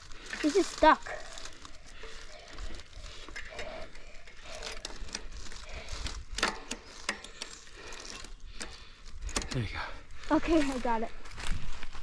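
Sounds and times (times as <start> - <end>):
bicycle chain clicking and rattling: 0.0 - 12.0.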